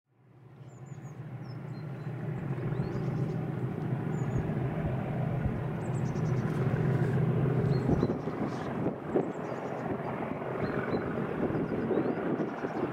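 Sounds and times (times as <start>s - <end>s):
diesel locomotive engine drone: 0.2s - 12.9s.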